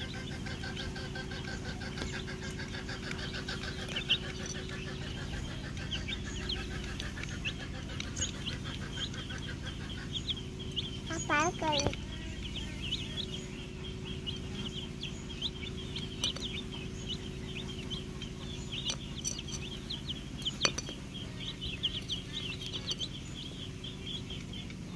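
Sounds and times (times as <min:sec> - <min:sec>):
baby chicks peeping: 0:00.0 - 0:24.9.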